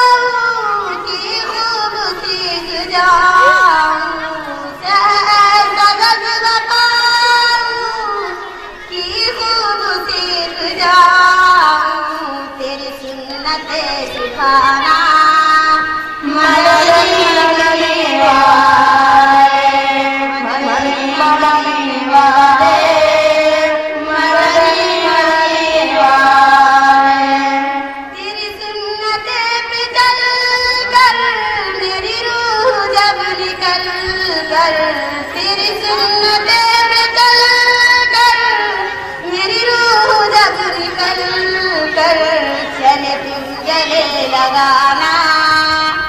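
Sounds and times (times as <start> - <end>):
girls singing through microphone: 0.0 - 46.0.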